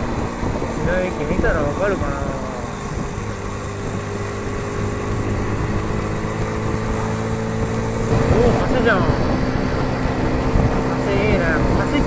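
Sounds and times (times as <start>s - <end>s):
small motorcycle engine running: 0.0s - 12.0s
wind rushing over microphone: 0.0s - 12.0s.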